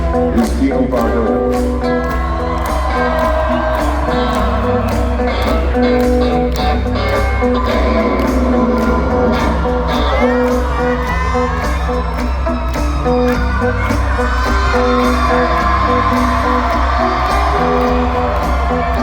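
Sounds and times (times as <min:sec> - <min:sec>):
crowd cheering: 0:00.0 - 0:19.0
live rock band playing: 0:00.0 - 0:19.0.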